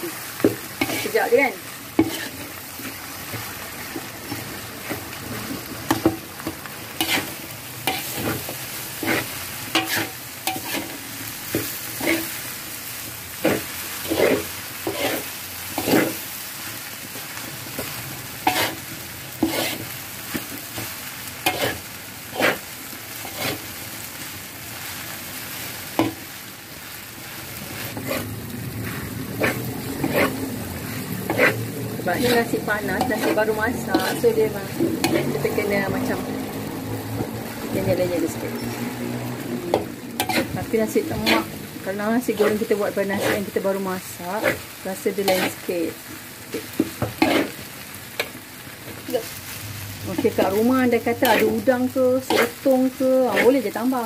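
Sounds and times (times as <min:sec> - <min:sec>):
frying sizzle: 0:00.0 - 0:54.0
metal spatula scraping wok: 0:00.5 - 0:12.5, 0:13.4 - 0:16.3, 0:17.8 - 0:23.8, 0:27.6 - 0:36.6, 0:37.4 - 0:54.0.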